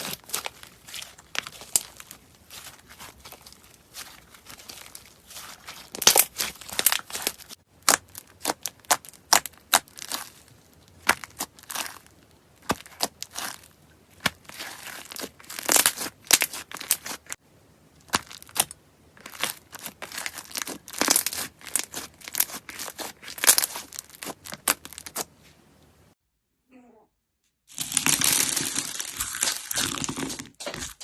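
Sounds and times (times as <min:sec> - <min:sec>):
crunchy slime crackling: 0:00.0 - 0:17.4, 0:18.0 - 0:25.3, 0:27.7 - 0:31.0.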